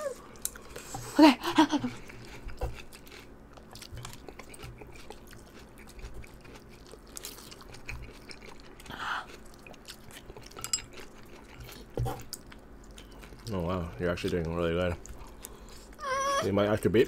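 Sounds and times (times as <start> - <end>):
wet chewing: 2.0 - 16.1.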